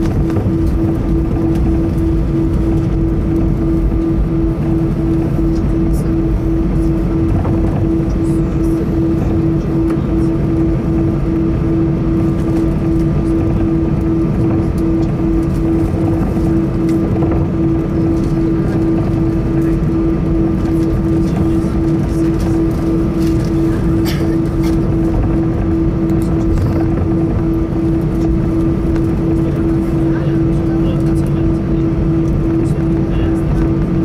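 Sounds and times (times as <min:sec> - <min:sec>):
aircraft cabin rumble: 0:00.0 - 0:34.0
pulsing humming tone: 0:00.0 - 0:34.0.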